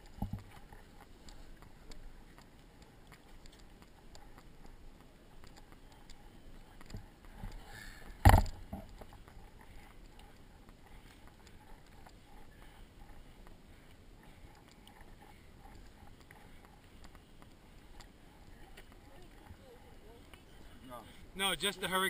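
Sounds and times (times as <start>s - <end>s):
faint footsteps: 0.0s - 22.0s.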